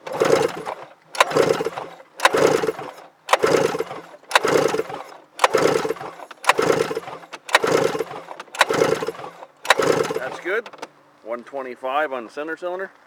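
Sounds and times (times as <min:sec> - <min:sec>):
snowmobile engine cranking: 0:00.0 - 0:10.9.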